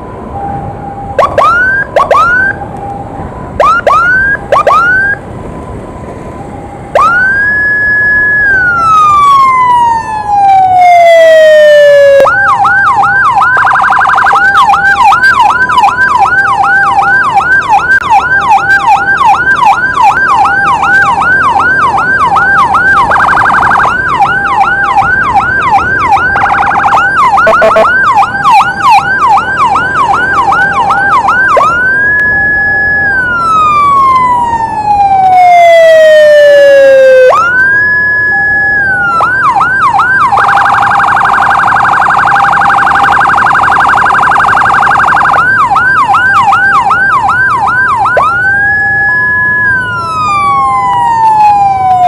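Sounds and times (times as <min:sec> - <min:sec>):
ambulance siren yelping and wailing: 0:00.0 - 0:52.0.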